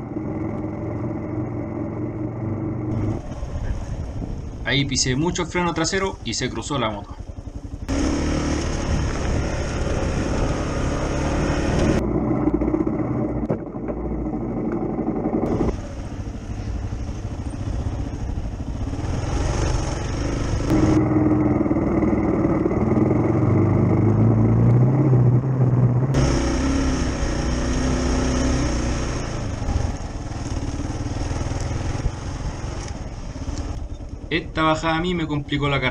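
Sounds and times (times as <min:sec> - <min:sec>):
motorcycle engine revving: 0:00.0 - 0:35.1.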